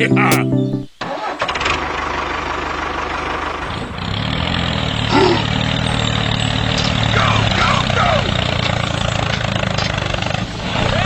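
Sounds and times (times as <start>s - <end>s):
mini tractor engine running: 1.2s - 11.0s.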